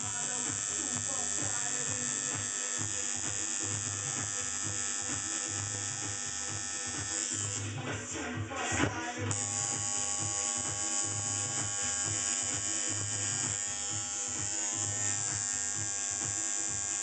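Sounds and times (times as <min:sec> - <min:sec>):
tattoo machine buzzing: 0:00.0 - 0:08.0, 0:09.2 - 0:17.0.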